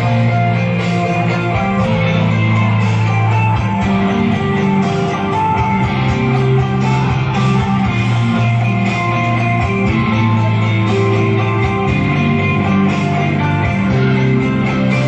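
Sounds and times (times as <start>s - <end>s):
guitar-led music: 0.0s - 15.0s
long held bass notes: 0.0s - 15.0s.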